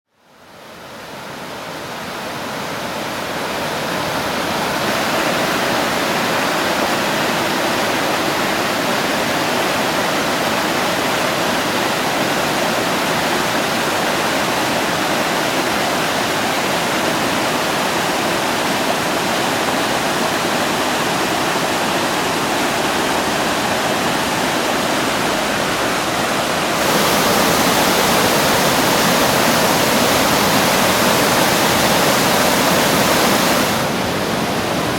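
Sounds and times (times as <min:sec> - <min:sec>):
river rushing as whitewater: 0:00.4 - 0:34.9.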